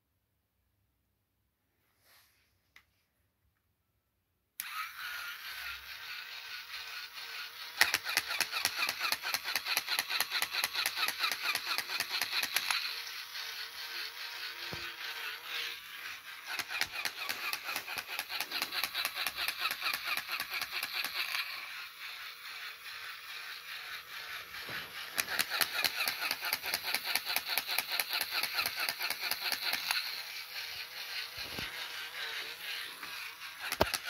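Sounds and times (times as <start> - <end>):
toy motor whirring: 4.6 - 34.0
rapid mechanical clicking: 5.7 - 34.0.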